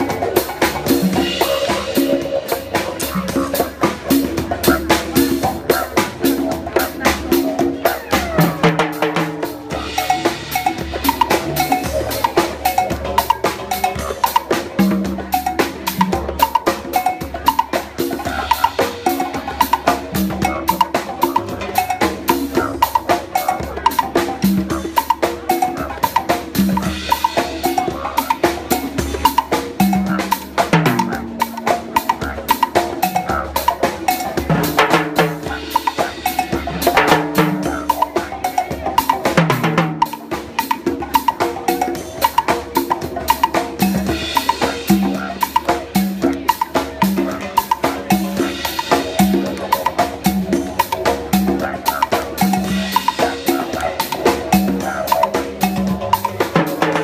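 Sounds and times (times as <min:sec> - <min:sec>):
congas and timbales playing: 0:00.0 - 0:57.0.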